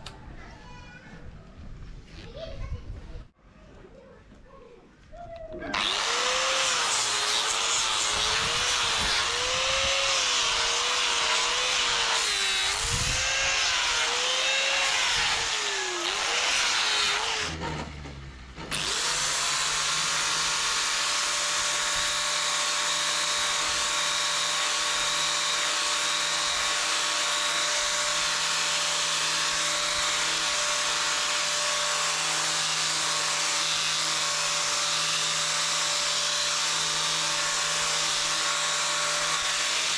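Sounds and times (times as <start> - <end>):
power tool motor running: 5.7 - 39.9.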